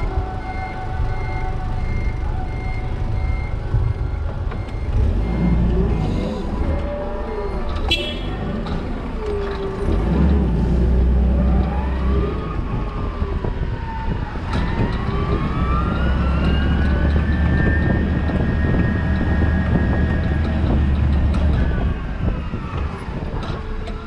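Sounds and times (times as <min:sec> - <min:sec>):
forklift engine rumble with whine: 0:00.0 - 0:24.0.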